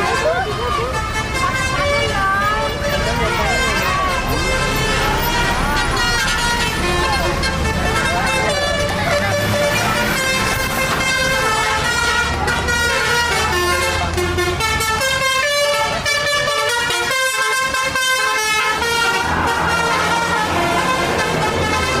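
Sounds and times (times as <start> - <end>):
bus humming: 0.0 - 22.0
multi-tone bus air horn tune: 0.0 - 22.0.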